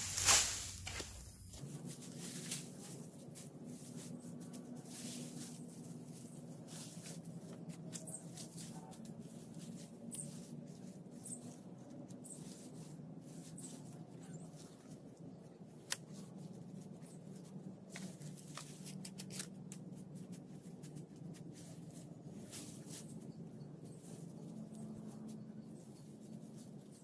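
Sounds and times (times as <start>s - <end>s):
dry grass rustling and crackling: 0.0s - 27.0s.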